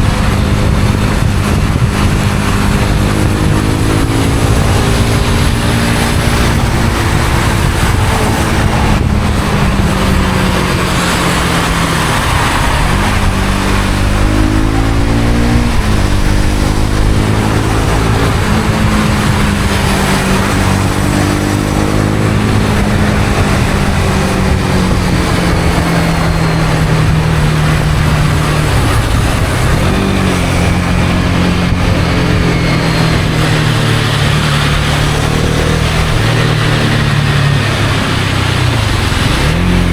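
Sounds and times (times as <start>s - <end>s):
motorcycle engine running: 0.0s - 39.9s
wet road noise: 0.0s - 39.9s
wind rushing: 0.0s - 39.9s.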